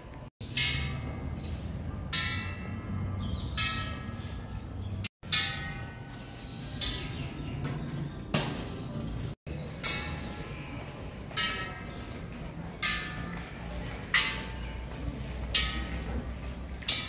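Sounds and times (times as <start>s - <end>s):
metal bells clanging: 0.4s - 8.6s, 9.5s - 17.0s.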